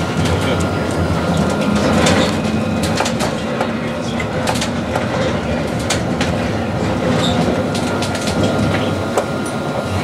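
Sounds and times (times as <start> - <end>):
tram rumble: 0.0 - 10.0
wheels clicking over rails: 0.1 - 10.0.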